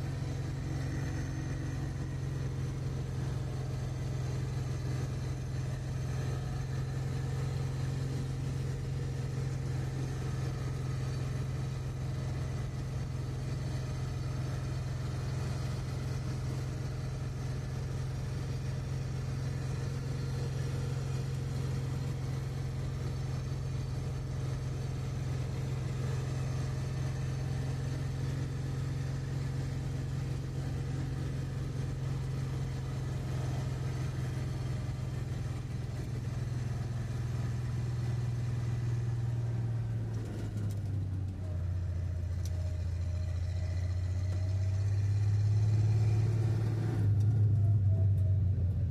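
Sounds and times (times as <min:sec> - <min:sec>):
car engine droning under load: 0:00.0 - 0:48.9.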